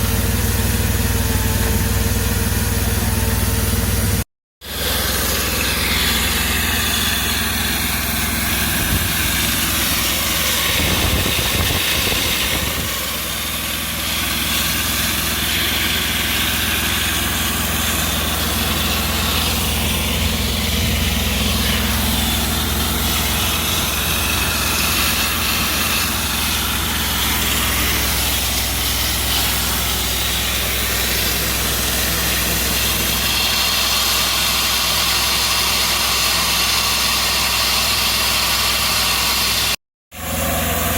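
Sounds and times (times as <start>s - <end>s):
air hissing: 0.0s - 35.0s
engine running steadily: 0.0s - 40.9s.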